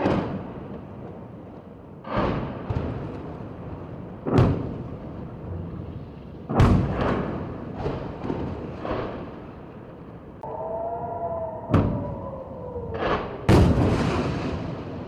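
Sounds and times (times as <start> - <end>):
distant explosions with echoing rumble: 0.0 - 10.5, 11.4 - 15.0.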